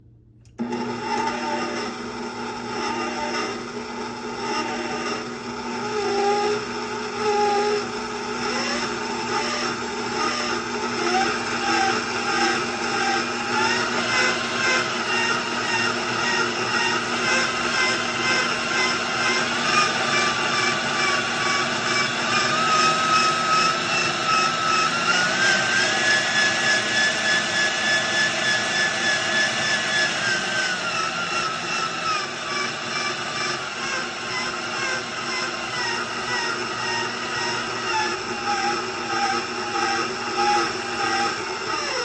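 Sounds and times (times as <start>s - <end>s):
mixer whine: 0.0s - 42.0s
stand mixer motor hum: 0.6s - 42.0s.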